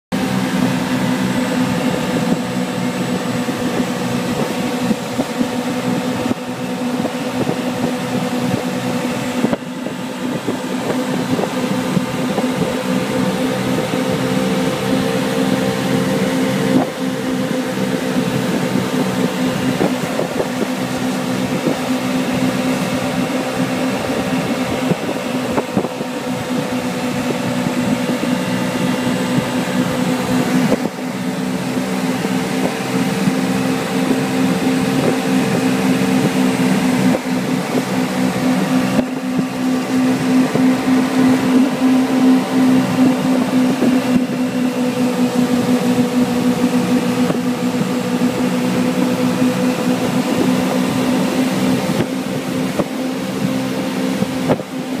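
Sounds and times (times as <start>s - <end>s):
boat engine running: 0.1s - 55.0s
water rushing in wake: 0.1s - 55.0s
wind: 0.1s - 55.0s.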